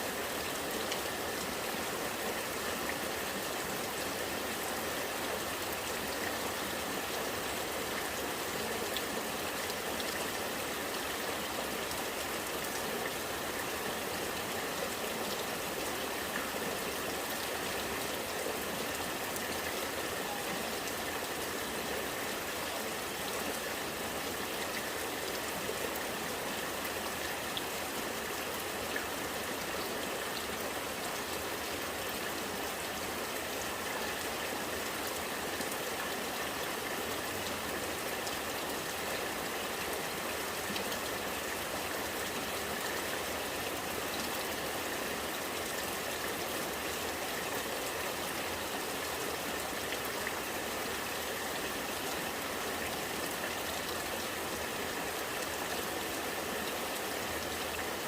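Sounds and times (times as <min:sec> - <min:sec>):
rain falling: 0:00.0 - 0:58.0
rainwater running and gurgling: 0:00.0 - 0:58.0.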